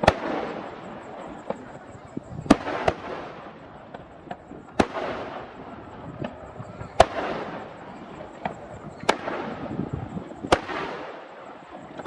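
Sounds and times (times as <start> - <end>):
fireworks bangs: 0.0 - 12.0
fireworks pops and crackle: 0.0 - 12.0.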